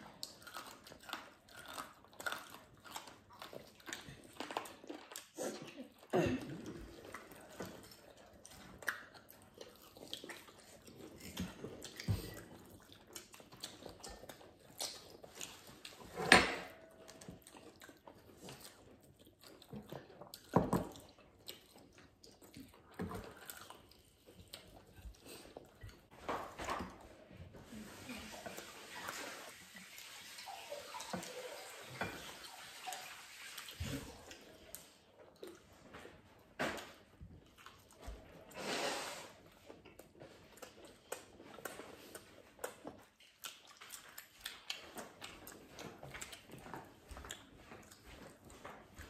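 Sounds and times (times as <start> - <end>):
people chewing crispy food: 0.0 - 16.3, 16.9 - 49.0.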